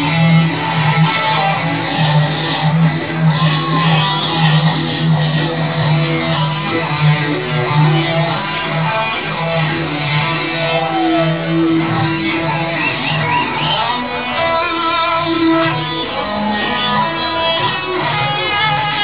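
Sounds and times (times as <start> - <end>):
electric guitar music: 0.0 - 19.0.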